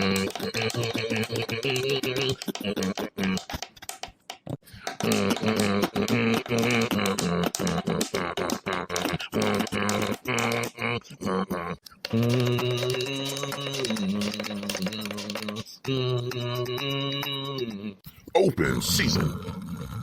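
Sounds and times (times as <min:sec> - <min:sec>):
beatboxing: 0:00.0 - 0:20.0.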